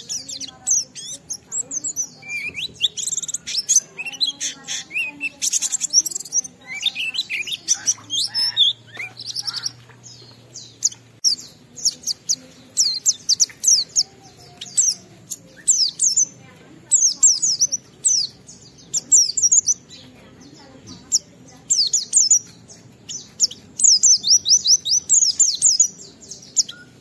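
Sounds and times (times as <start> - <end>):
bird twittering song: 0.0 - 27.0.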